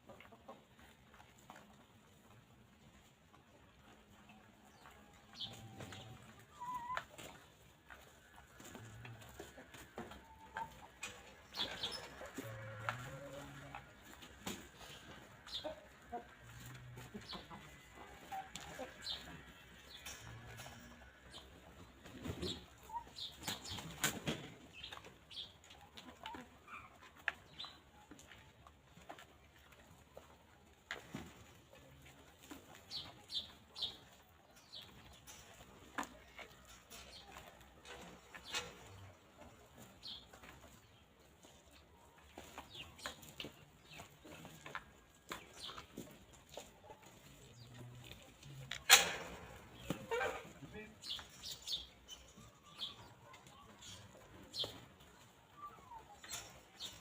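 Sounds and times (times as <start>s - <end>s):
chickens pecking and scratching: 0.0s - 57.0s.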